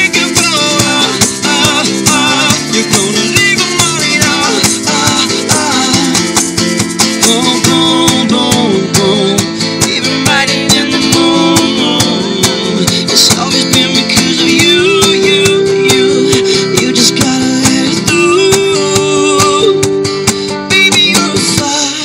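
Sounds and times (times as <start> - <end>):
live band playing pop song: 0.0 - 22.0
strummed acoustic guitar: 0.0 - 22.0.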